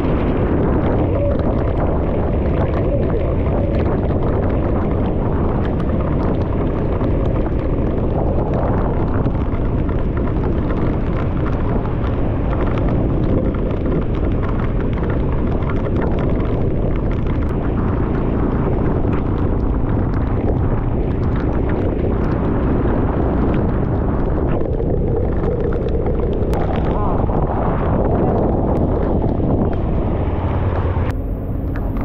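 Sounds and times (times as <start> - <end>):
motorbike running: 0.0 - 32.0
wind rushing over microphone: 0.0 - 32.0.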